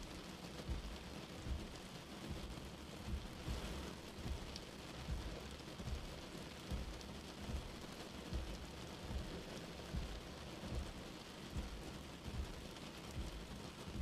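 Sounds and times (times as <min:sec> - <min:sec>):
rain on a car windshield: 0:00.0 - 0:14.0
windshield wiper thumps: 0:00.6 - 0:14.0.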